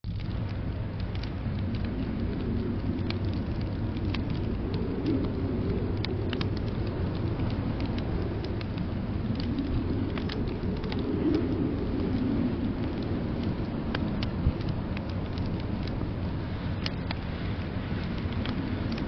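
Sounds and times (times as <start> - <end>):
burning wood snapping and popping: 0.0 - 19.0
low fire rumble: 0.0 - 19.0.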